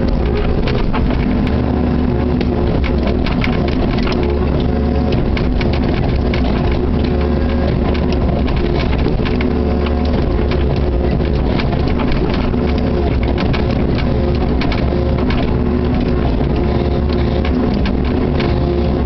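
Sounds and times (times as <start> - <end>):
diesel engine running: 0.0 - 19.0
hydraulic whine: 0.0 - 19.0
short knocks and clatters: 0.0 - 19.0.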